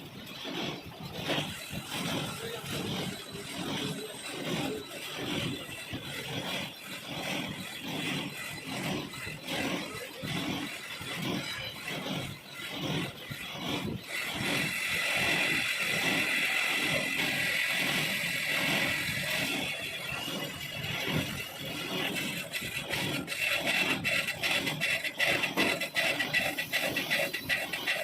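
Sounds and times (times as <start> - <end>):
lathe tool scraping iron: 0.0 - 28.0.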